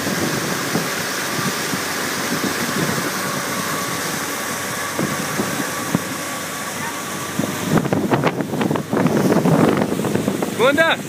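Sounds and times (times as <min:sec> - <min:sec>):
outboard motor running: 0:00.0 - 0:11.0
rushing wind and churning water: 0:00.0 - 0:11.0
wind buffeting microphone: 0:00.0 - 0:11.0.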